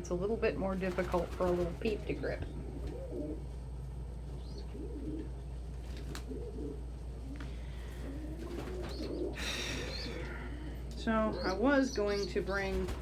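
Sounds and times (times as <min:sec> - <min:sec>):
pigeons cooing: 0:00.9 - 0:13.0.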